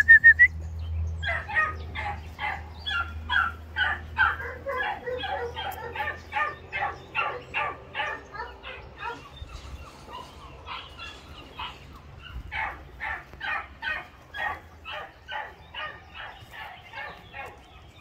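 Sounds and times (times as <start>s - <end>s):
dog barking: 1.2s - 9.4s, 10.1s - 17.7s.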